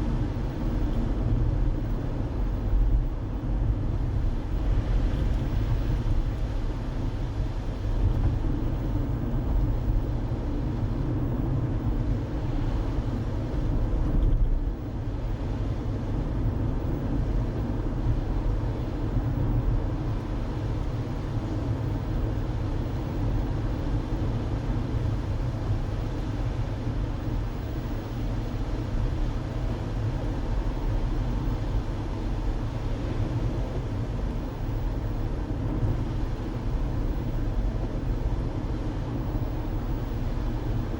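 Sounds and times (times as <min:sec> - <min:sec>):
car interior road rumble: 0:00.0 - 0:40.9.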